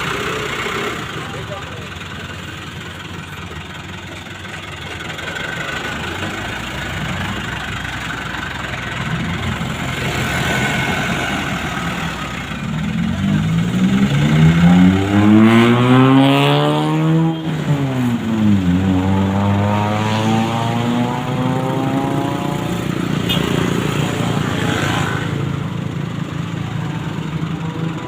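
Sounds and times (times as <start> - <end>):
dump truck engine revving: 0.0 - 28.0.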